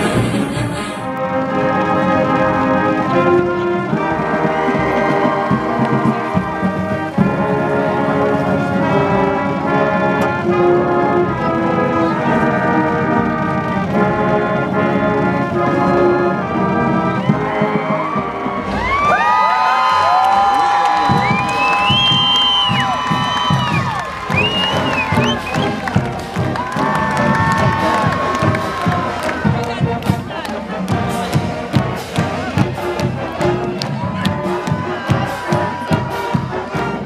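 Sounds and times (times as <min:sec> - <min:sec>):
brass band playing held chords: 0:00.0 - 0:37.0.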